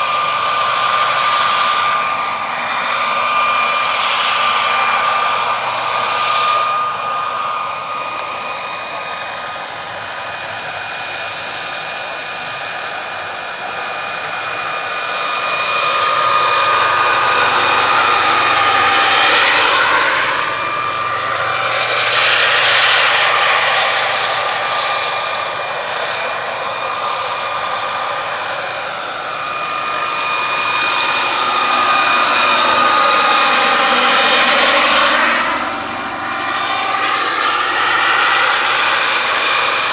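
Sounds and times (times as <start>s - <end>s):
helicopter rotors rushing: 0.0s - 39.9s
model helicopter turbine whine: 0.0s - 39.9s.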